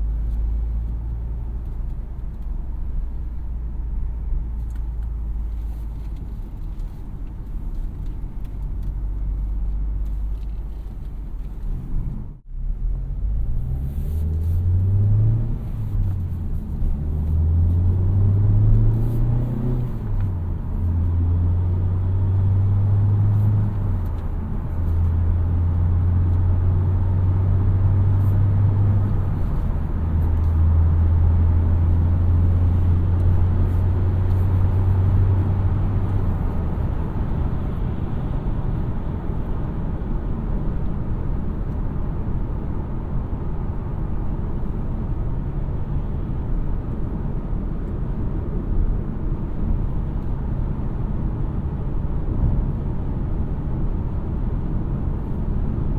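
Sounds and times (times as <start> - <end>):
car engine droning: 0.0 - 55.9
tyre and road noise: 0.0 - 55.9.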